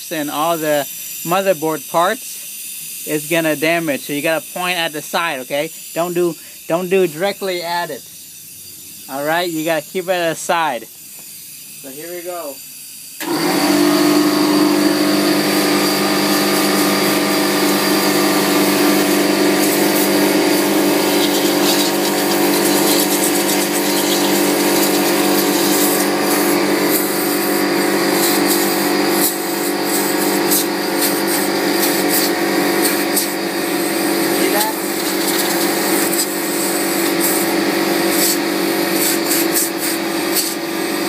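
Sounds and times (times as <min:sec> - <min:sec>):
air compressor motor hum: 0:00.0 - 0:41.0
compressed air hissing from nozzle: 0:00.0 - 0:41.0.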